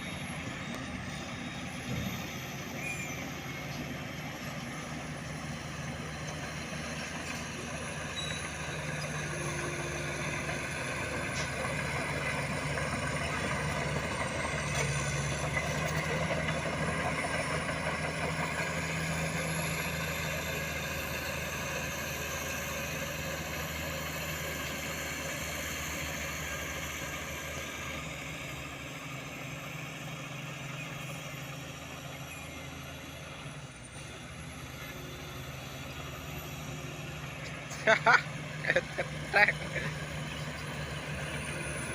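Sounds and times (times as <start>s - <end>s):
dump truck engine running: 0.0s - 41.9s.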